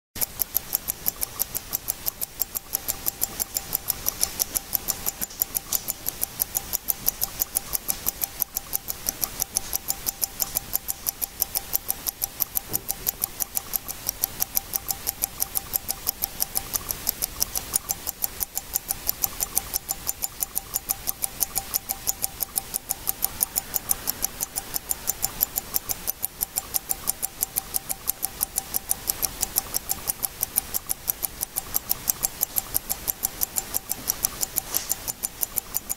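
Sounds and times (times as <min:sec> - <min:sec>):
wristwatch ticking: 0:00.2 - 0:35.9.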